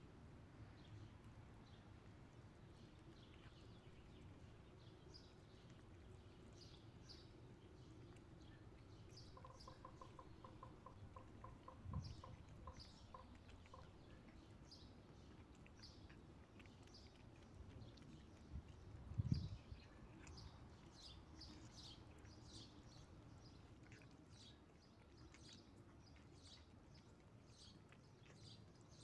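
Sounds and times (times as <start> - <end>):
songbirds chirping: 0.2 - 29.0.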